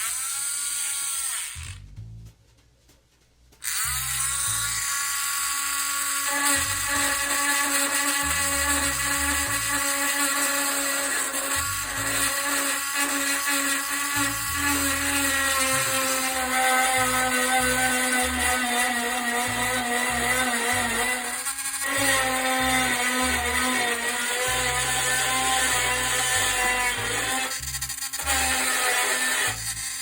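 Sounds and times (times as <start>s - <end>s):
rotary tool engraving metal: 0.0s - 1.8s, 3.6s - 30.0s.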